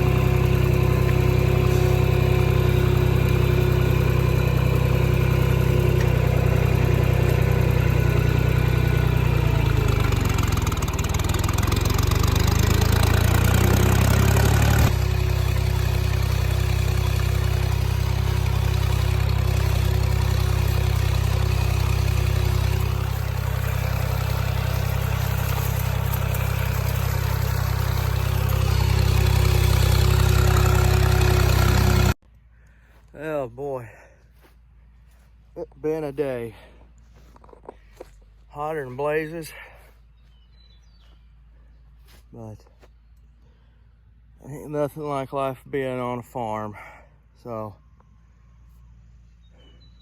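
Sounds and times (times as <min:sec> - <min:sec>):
tractor engine running: 0:00.0 - 0:46.7.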